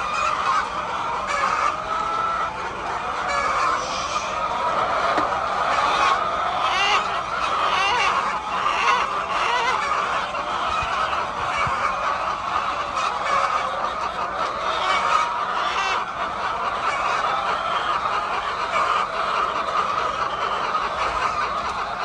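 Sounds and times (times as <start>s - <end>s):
flock of chickens calling: 0.0s - 22.0s.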